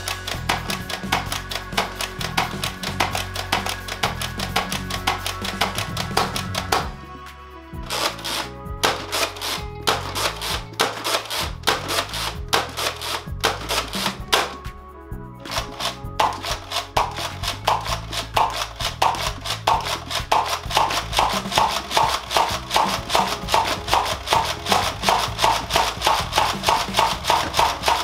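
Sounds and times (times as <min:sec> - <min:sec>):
background music with beat and bass: 0:00.0 - 0:28.0.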